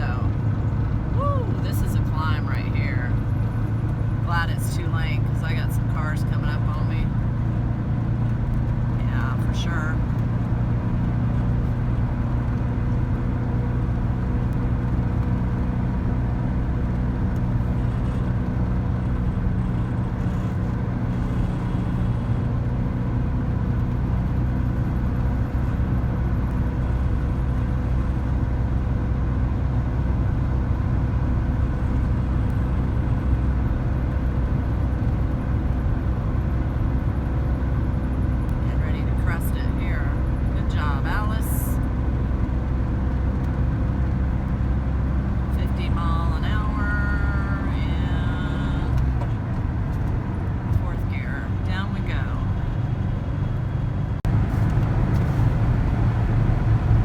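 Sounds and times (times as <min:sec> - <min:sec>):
road noise: 0:00.0 - 0:57.0
van engine running: 0:00.0 - 0:57.0.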